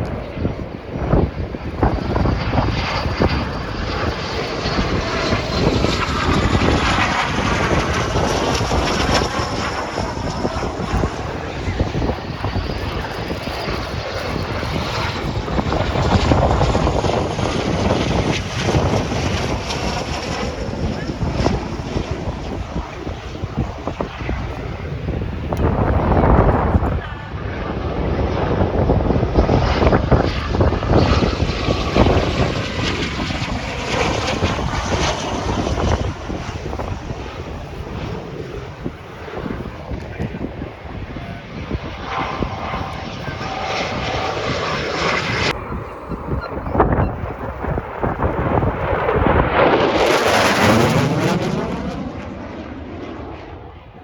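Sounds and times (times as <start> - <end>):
aircraft flying past: 0.0 - 54.0
jet engine roar: 0.0 - 54.0
wind buffeting microphone: 0.0 - 54.0.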